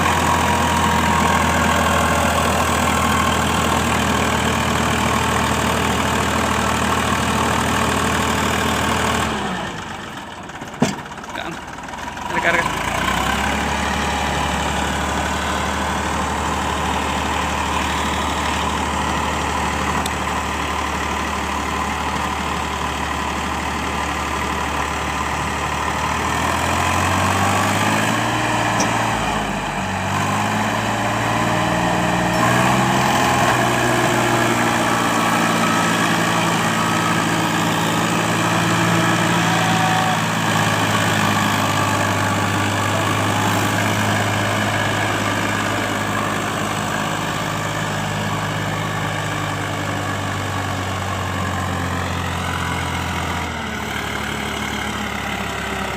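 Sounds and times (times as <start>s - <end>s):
tractor diesel engine revving: 0.0s - 55.9s.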